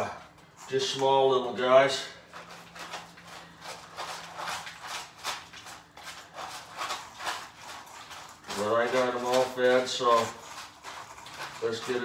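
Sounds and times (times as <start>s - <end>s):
cats chewing and licking food: 0.0s - 12.0s.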